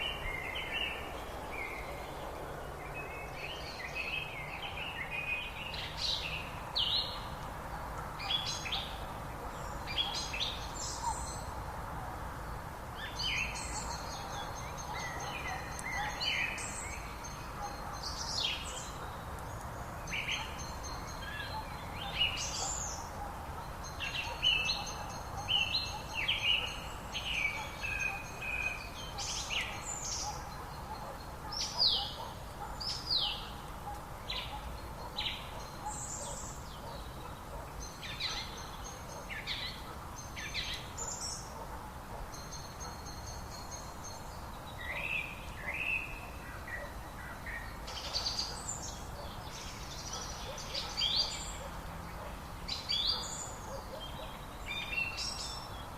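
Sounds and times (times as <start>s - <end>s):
songbirds singing and calling: 0.0s - 55.9s
steady background hiss: 0.0s - 55.9s.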